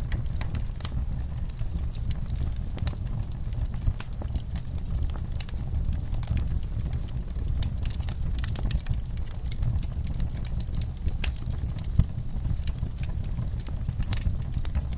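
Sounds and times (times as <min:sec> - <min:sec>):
flames rumbling: 0:00.0 - 0:14.9
wood fire crackles and pops: 0:00.0 - 0:14.9.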